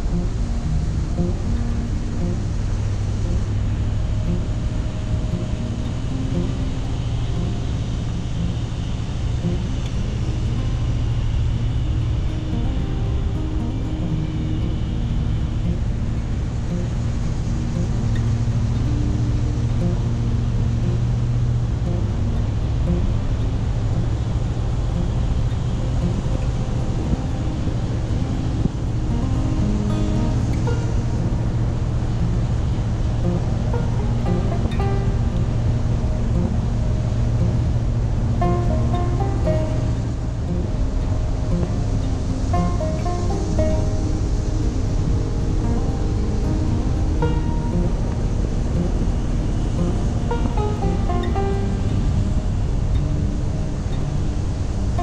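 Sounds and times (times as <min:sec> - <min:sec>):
vehicle driving on paved road: 0:00.0 - 0:55.0
wind noise: 0:00.0 - 0:55.0.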